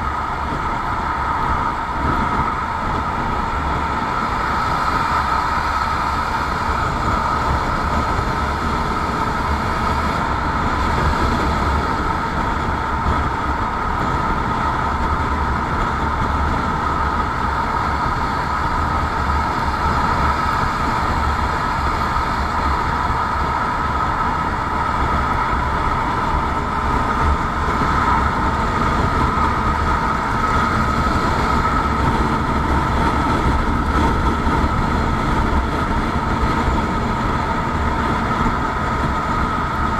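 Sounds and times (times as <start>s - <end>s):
vehicle running noise: 0.0s - 39.9s.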